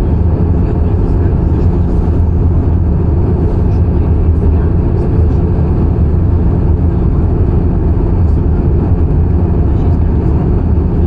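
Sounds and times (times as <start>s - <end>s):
airflow past the fuselage: 0.0s - 11.0s
jet engines rumbling: 0.0s - 11.0s
steady low hum: 0.0s - 11.0s.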